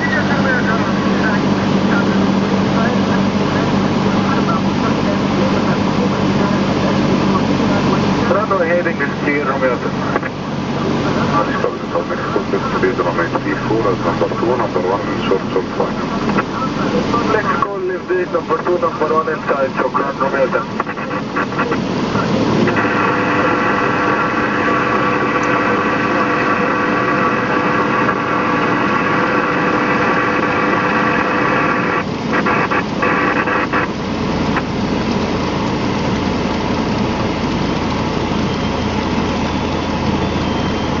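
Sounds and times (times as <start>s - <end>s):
aircraft engine droning: 0.0s - 41.0s.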